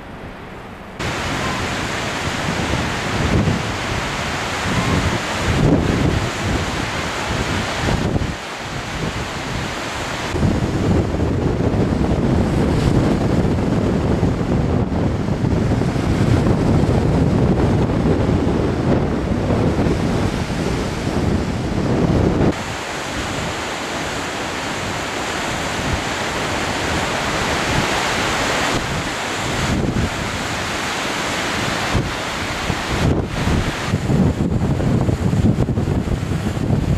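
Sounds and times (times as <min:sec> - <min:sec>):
waves breaking on shore: 0:00.0 - 0:36.9
wind buffeting microphone: 0:00.0 - 0:36.9.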